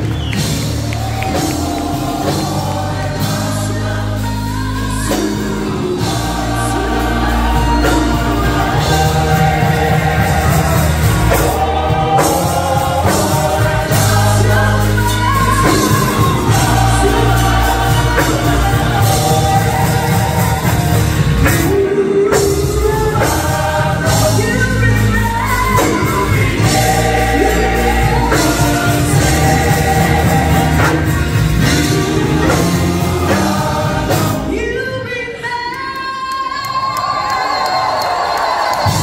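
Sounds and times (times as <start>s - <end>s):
church choir singing: 0.0s - 35.6s
amplified instrumental backing: 0.0s - 36.4s.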